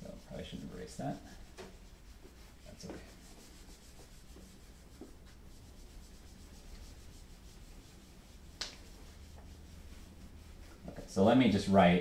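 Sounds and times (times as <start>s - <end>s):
whiteboard eraser rubbing: 0.0s - 11.5s.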